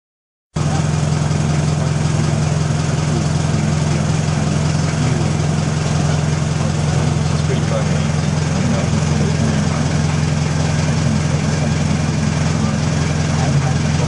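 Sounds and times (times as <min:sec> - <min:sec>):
engine idling: 0:00.6 - 0:14.0.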